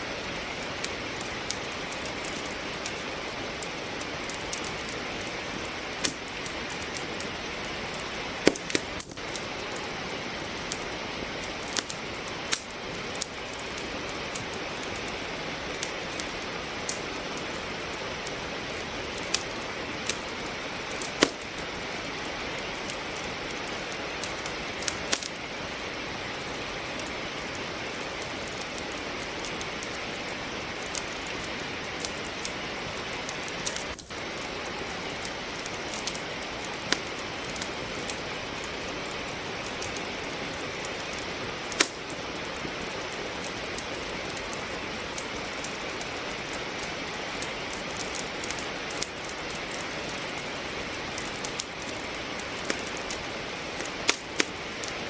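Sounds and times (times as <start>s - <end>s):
logs crackling in a fireplace: 0.0s - 55.0s
rain hiss: 0.0s - 55.0s.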